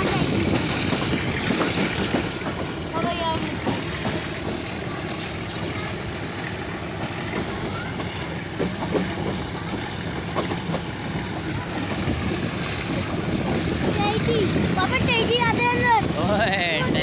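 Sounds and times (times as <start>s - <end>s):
train rumble and rattle: 0.0s - 17.0s
wheels clacking over rail joints: 0.0s - 17.0s.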